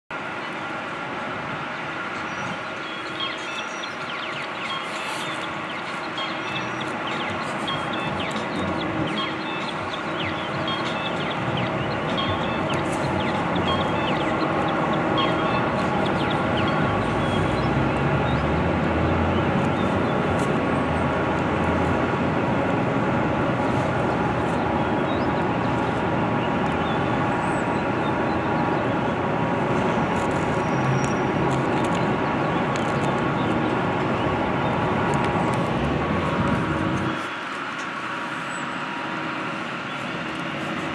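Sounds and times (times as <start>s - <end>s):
constant engine drone: 0.1s - 40.9s
traffic noise: 0.1s - 40.9s.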